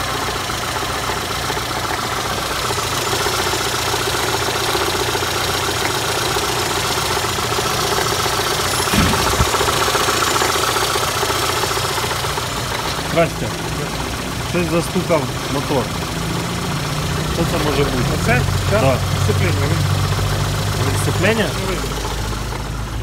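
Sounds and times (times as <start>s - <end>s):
car engine idling: 0.0s - 23.0s
rapid engine knock: 0.0s - 23.0s.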